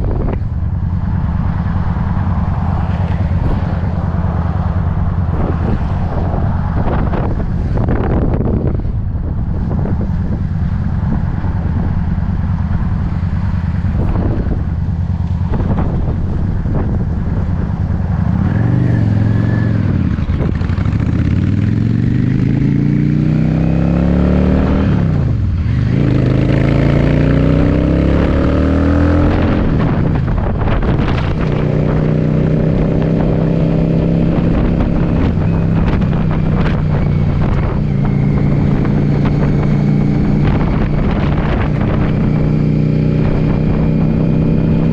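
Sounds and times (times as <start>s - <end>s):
motorcycle engine shifting gears: 0.0s - 44.9s
wind rumbling on microphone: 0.0s - 44.9s.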